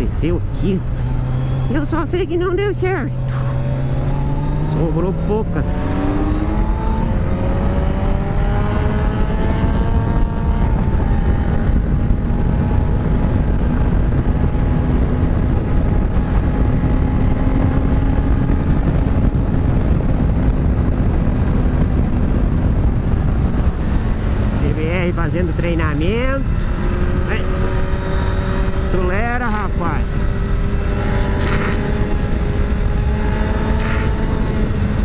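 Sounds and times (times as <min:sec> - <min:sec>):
motorcycle engine accelerating: 0:00.0 - 0:35.0
wind rushing over microphone: 0:00.0 - 0:35.0.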